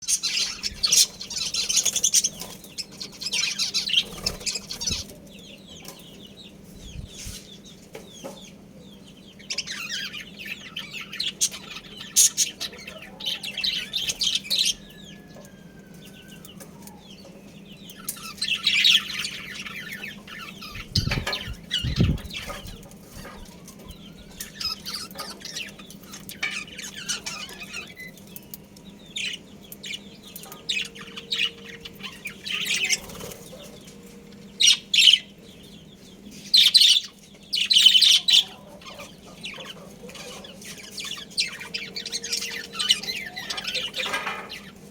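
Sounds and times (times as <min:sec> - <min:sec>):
budgerigars chirping: 0:00.0 - 0:44.9.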